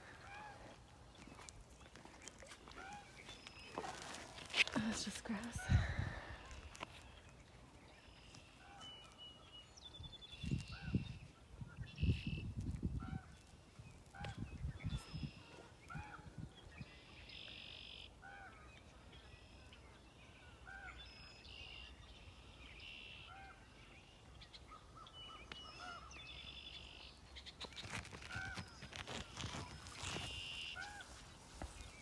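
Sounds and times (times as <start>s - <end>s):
birds trilling songs: 0.0s - 32.0s.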